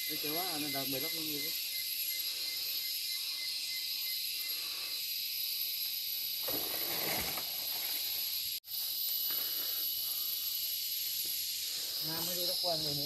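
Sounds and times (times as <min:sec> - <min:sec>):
cicadas and crickets droning: 0:00.0 - 0:13.0.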